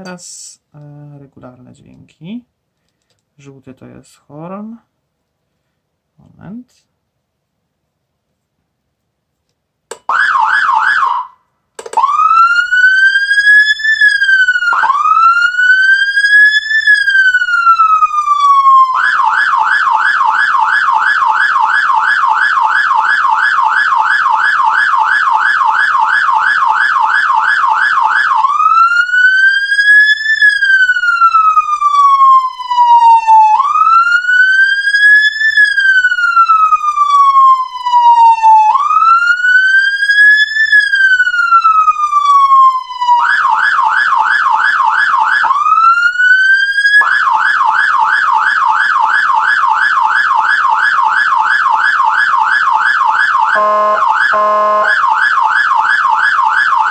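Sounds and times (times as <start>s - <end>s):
electronic siren wailing and yelping: 9.9s - 56.9s.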